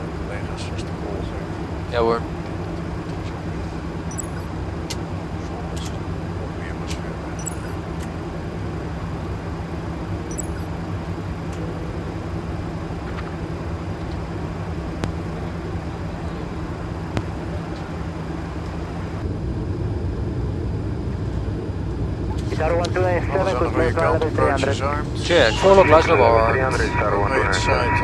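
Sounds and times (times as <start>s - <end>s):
cockpit rumble and hum: 0.0s - 28.0s.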